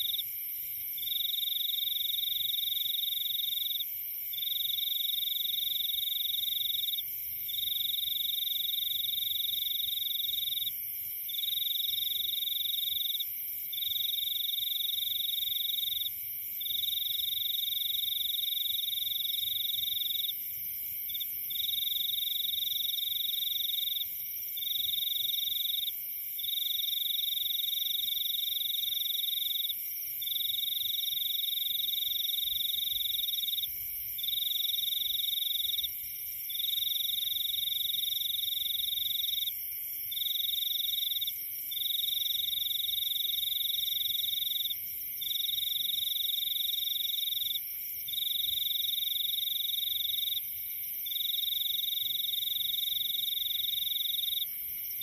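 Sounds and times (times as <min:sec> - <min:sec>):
droning frog and insect calls: 0:00.0 - 0:00.3, 0:01.0 - 0:55.0.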